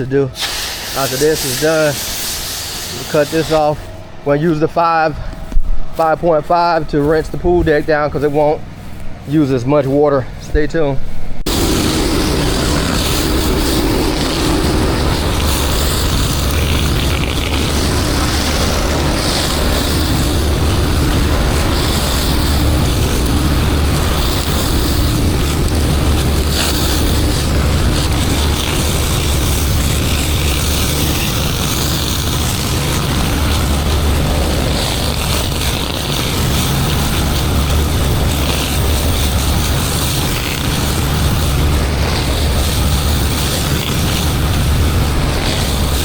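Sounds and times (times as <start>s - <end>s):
high-pressure water spray hiss: 0.3s - 3.9s, 11.5s - 46.0s
pressure washer engine running: 0.4s - 5.0s, 11.5s - 46.0s.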